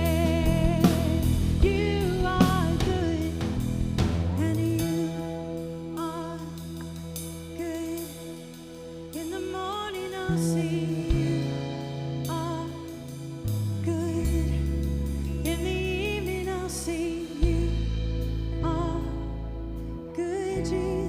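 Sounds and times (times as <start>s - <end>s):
sustained low chords: 0.0s - 21.0s.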